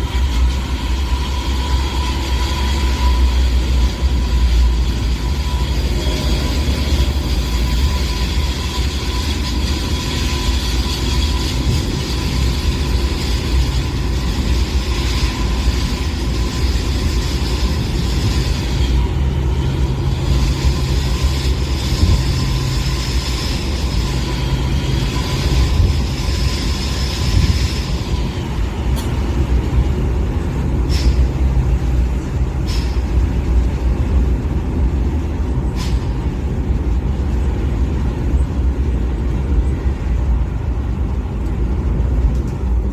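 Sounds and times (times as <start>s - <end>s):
train rumbling with high whine: 0.0s - 42.9s.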